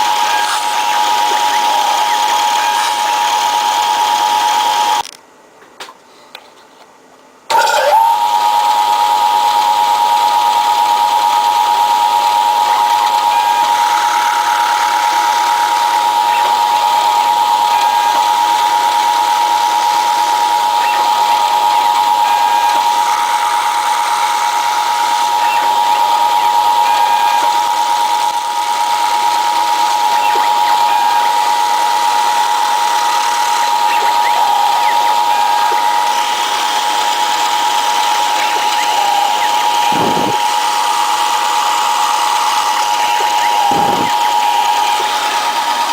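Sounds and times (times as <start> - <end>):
spindle motor whining: 0.0 - 5.1, 7.5 - 45.9.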